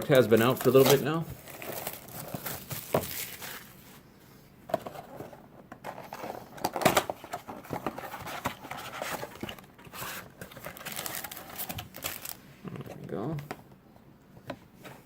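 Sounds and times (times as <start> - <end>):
card packs rustling: 0.0 - 4.0, 4.7 - 13.4.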